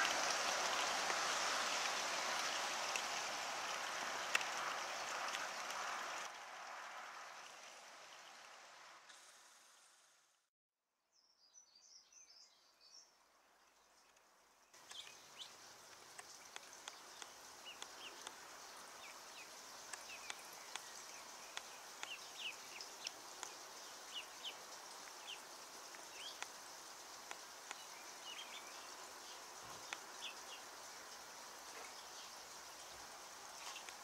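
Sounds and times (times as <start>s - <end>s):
faint outdoor hiss: 0.0s - 10.5s, 11.1s - 34.0s.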